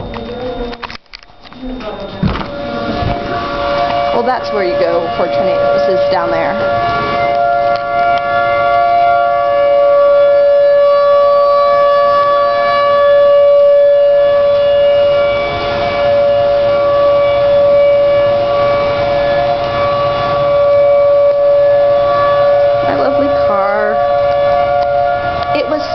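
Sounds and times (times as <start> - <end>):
tornado warning siren wailing: 0.0 - 25.9.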